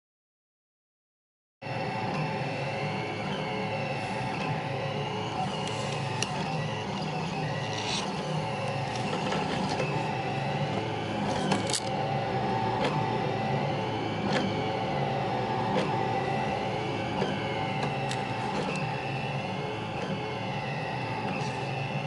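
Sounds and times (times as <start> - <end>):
stepper motors whining: 1.6 - 22.0.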